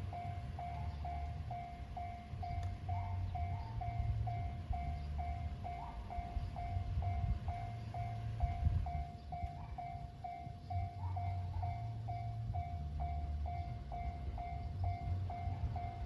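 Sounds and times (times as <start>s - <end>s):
level crossing warning bell ringing: 0.0s - 16.0s
low rumble: 0.0s - 16.0s.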